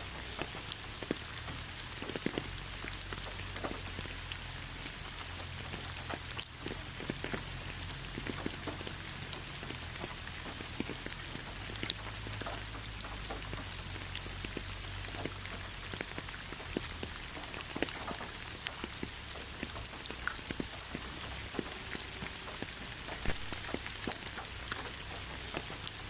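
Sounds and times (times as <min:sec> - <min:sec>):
raindrops clicking: 0:00.0 - 0:26.0
steady rain hiss: 0:00.0 - 0:26.0.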